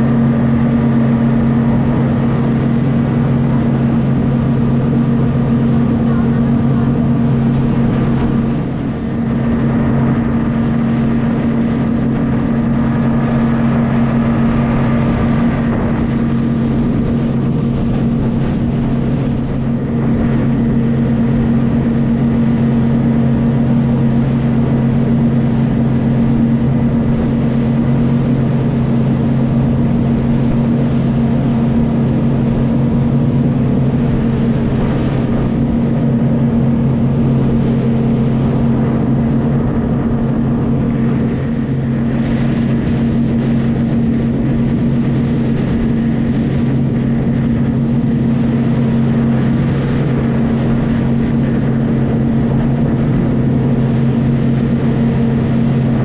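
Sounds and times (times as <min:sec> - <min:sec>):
motorboat engine droning: 0:00.0 - 0:56.0
wake water rushing: 0:00.0 - 0:56.0.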